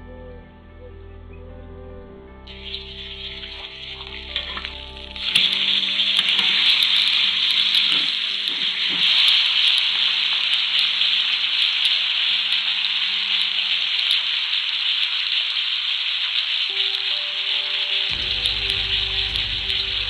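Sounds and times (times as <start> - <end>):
steak sizzling in a skillet: 2.5 - 20.0.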